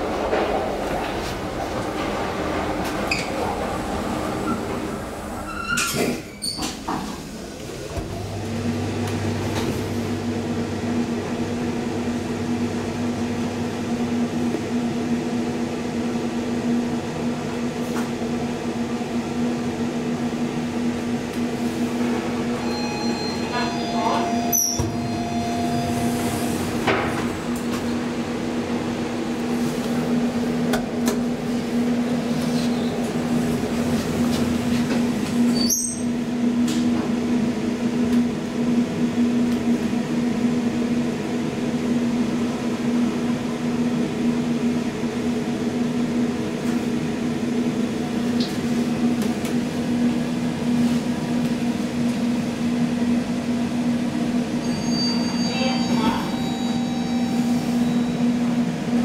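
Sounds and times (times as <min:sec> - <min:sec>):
elevator hum: 0:00.0 - 0:59.0.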